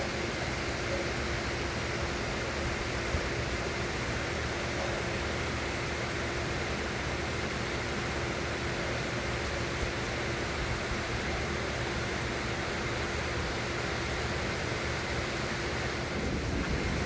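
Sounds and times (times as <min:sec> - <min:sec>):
faint steady hum: 0:00.0 - 0:17.0
rain hissing: 0:00.0 - 0:17.0.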